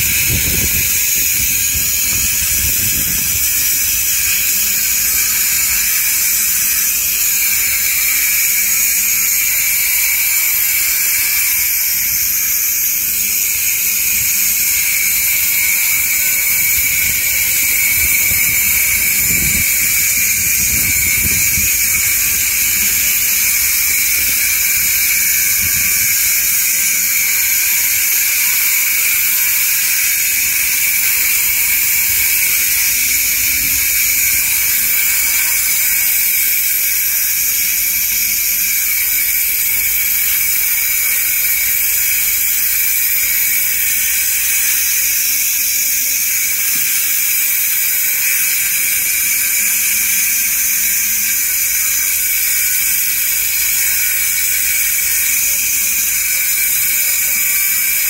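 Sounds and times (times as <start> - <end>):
angle grinder cutting concrete: 0.0 - 58.0.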